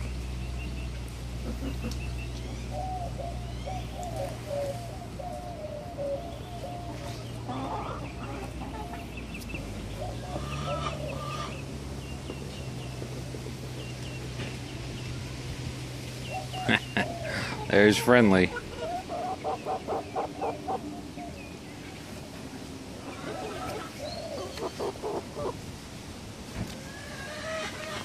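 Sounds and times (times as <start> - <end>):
hens clucking: 0.9 - 15.4, 16.2 - 25.6, 26.6 - 28.0.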